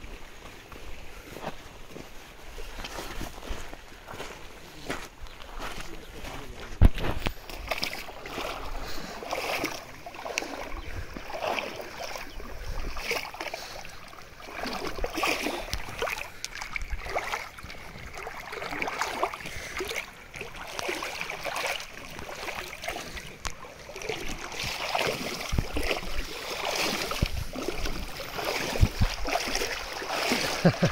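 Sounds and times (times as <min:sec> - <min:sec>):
wading through shallow water: 0:00.0 - 0:30.9.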